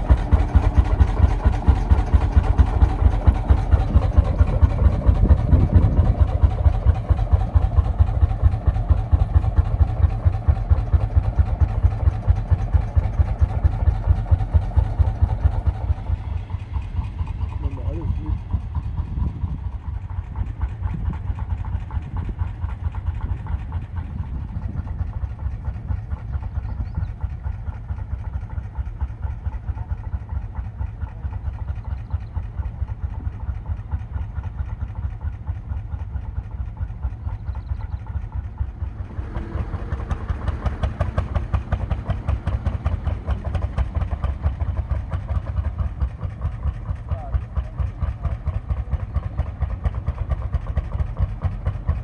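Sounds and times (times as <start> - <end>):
tractor engine thumping: 0.0 - 52.0.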